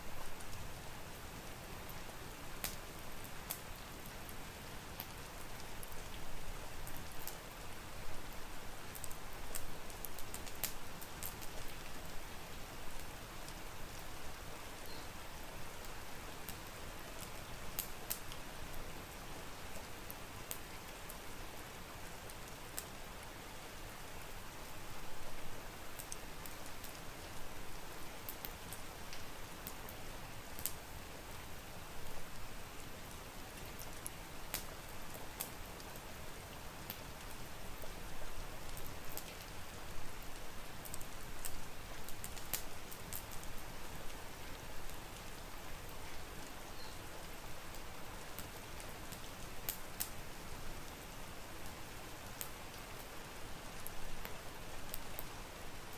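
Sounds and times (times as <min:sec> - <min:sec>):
steady rain: 0:00.0 - 0:55.9
wood fire crackling: 0:00.0 - 0:55.9.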